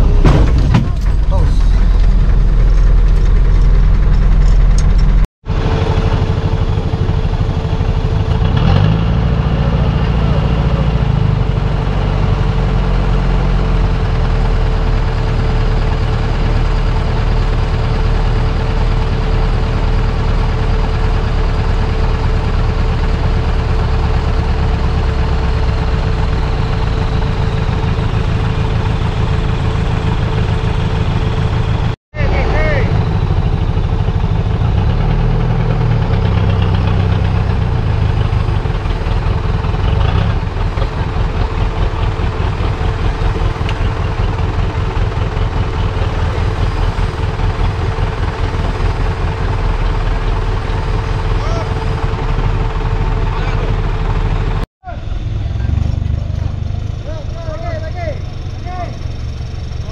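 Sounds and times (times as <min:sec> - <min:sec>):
engine revving: 0:00.0 - 0:59.9
off-road engine running: 0:00.0 - 0:59.9.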